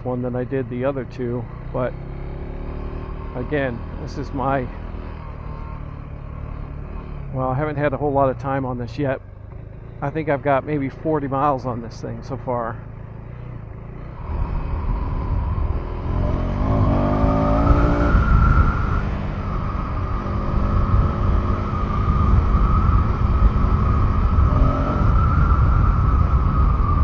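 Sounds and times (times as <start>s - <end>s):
motorcycle engine revving: 0.8s - 27.0s.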